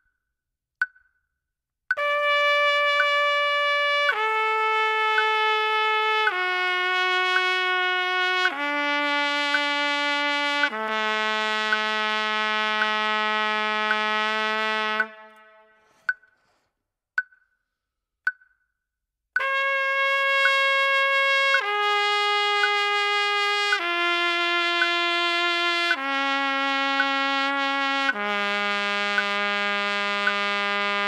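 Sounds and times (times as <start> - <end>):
trumpet long notes: 2.0 - 16.0, 19.4 - 31.0.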